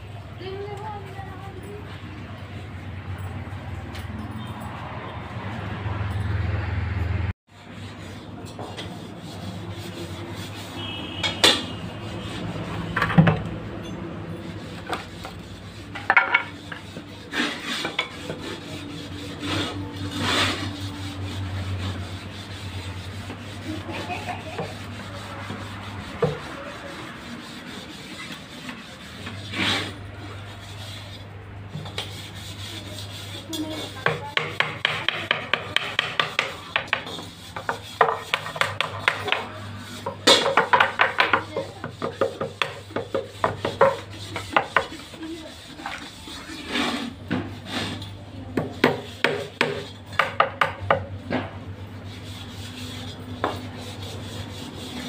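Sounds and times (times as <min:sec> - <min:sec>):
filing wood strokes: 0:07.5 - 0:55.0.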